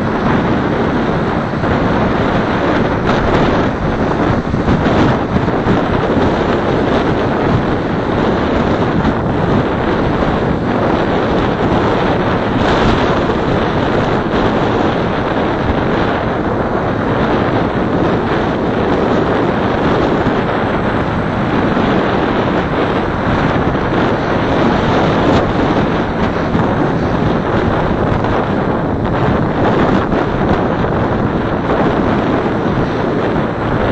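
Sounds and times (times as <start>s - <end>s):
car road and wind noise: 0.0s - 33.9s.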